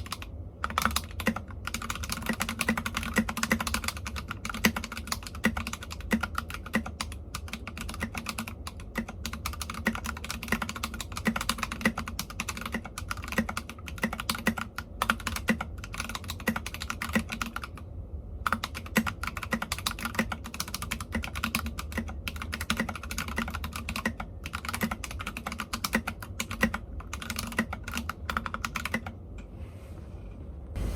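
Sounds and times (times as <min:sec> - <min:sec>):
mechanical keyboard typing: 0:00.0 - 0:17.8, 0:18.4 - 0:29.1.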